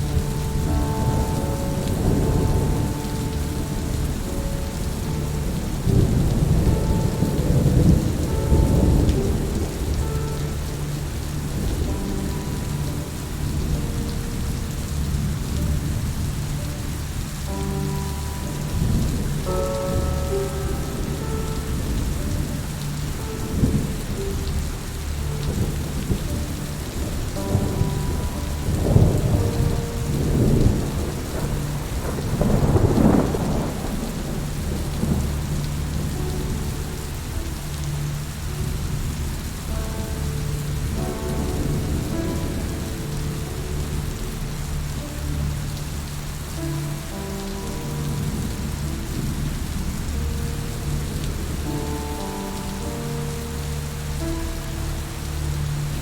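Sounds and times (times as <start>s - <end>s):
rolling thunder: 0.0s - 56.0s
soft held musical notes: 0.0s - 56.0s
steady rain: 0.0s - 56.0s.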